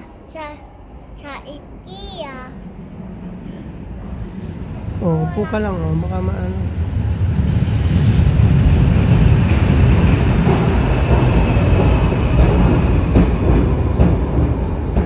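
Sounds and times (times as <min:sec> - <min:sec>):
underground train rumbling: 0:00.0 - 0:15.0.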